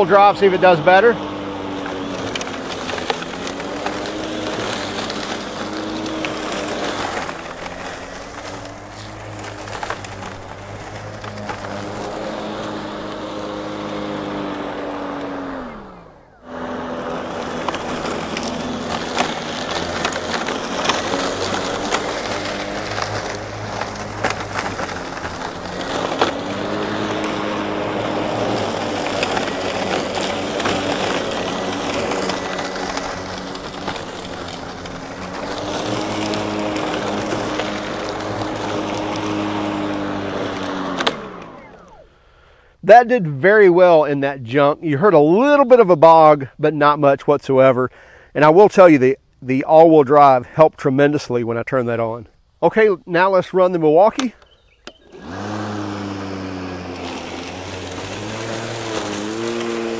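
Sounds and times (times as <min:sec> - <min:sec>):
lawn mower motor humming: 0:00.0 - 0:47.2, 0:51.0 - 0:59.9
stems crackling against mower deck: 0:00.0 - 0:59.9.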